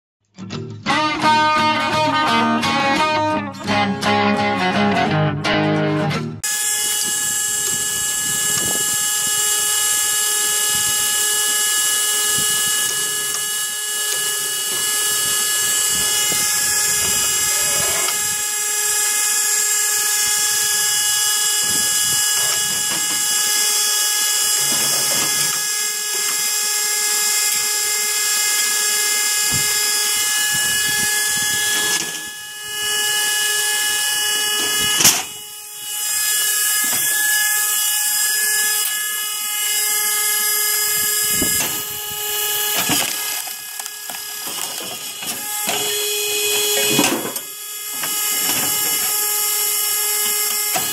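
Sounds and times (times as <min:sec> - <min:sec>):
log splitter motor whining: 0:00.9 - 0:50.9.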